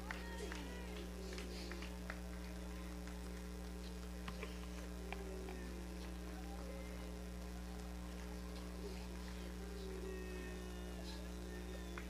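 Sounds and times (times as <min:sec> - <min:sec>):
faint wavering voices: 0:00.0 - 0:12.0
low electrical hum: 0:00.0 - 0:12.0.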